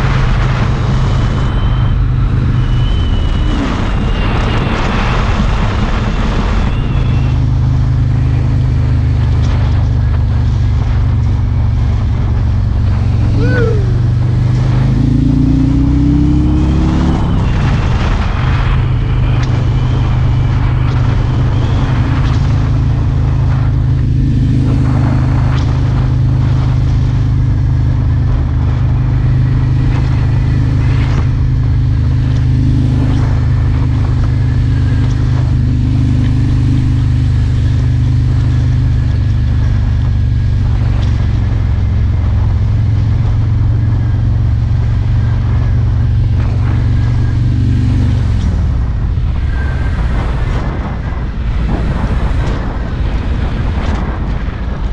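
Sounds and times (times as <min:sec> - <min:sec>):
motorcycle engine cruising: 0:00.0 - 0:54.9
wind and road noise: 0:00.0 - 0:54.9.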